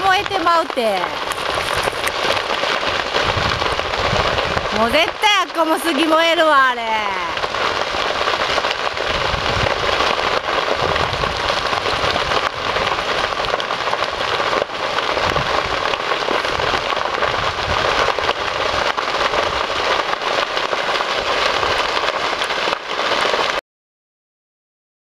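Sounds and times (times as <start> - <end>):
grass fire crackling: 0.0 - 23.6.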